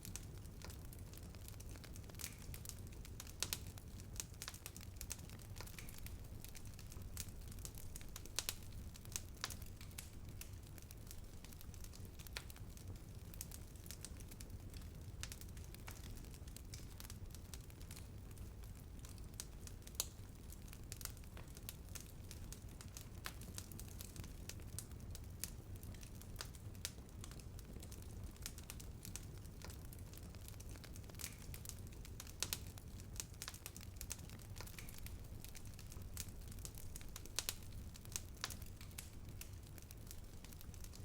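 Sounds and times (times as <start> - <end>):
bonfire crackling: 0.0 - 41.0.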